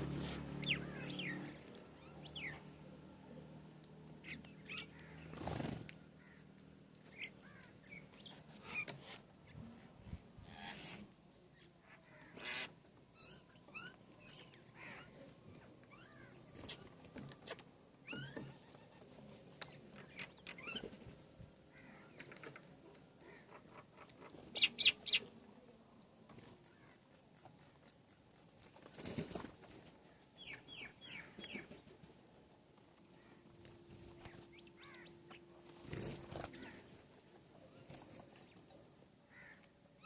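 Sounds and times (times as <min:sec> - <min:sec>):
small birds chirping: 0:00.0 - 0:25.6, 0:26.2 - 0:40.0.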